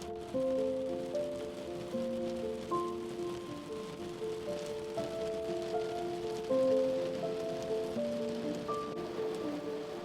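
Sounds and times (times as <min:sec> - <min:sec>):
calm music of held notes: 0:00.0 - 0:10.0
heavy rain hissing: 0:00.0 - 0:10.0.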